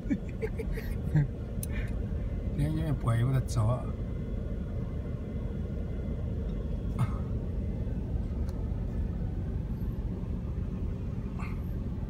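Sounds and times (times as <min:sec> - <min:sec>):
pickup truck rumbling inside cab: 0:00.0 - 0:12.0.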